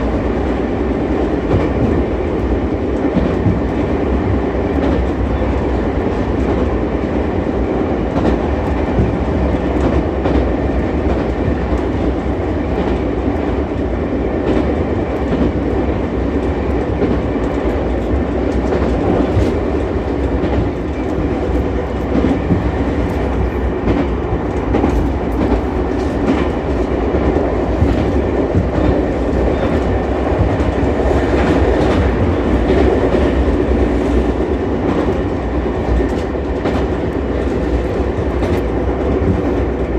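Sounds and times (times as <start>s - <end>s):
electric railcar running rumble: 0.0s - 39.9s.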